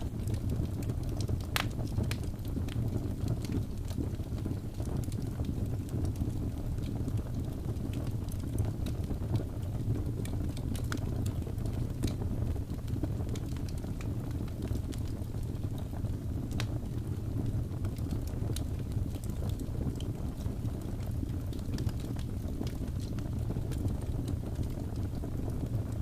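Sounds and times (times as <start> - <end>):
fire burning in fireplace: 0.0 - 26.0
logs popping and crackling: 0.0 - 26.0.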